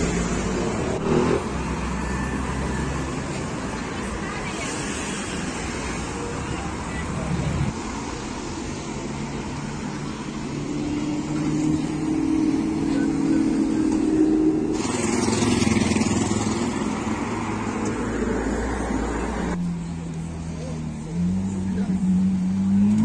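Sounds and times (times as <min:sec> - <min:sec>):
cars driving past: 0:00.0 - 0:23.0
traffic noise: 0:00.0 - 0:23.0.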